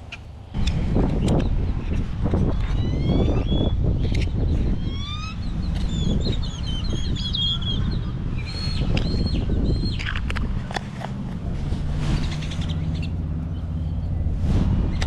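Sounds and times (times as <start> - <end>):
wild birds chirping and whistling: 0.0 - 10.7, 11.5 - 15.0
steady low rumble: 0.0 - 15.0.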